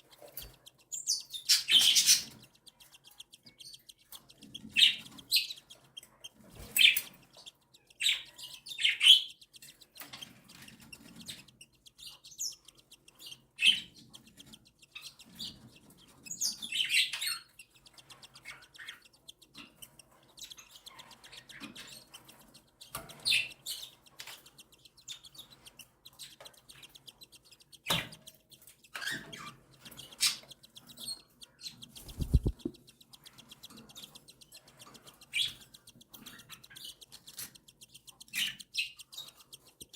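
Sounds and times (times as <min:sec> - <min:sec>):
chicks begging chirps: 0:00.0 - 0:39.9
sharp click: 0:00.1 - 0:39.9.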